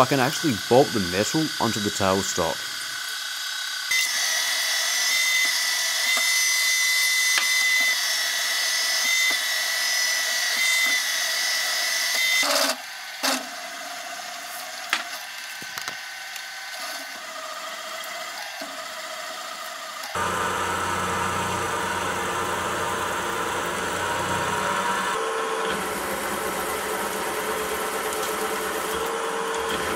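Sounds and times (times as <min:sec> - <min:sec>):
drill cutting steel: 0:00.0 - 0:29.9
milling machine spindle whine: 0:00.0 - 0:29.9.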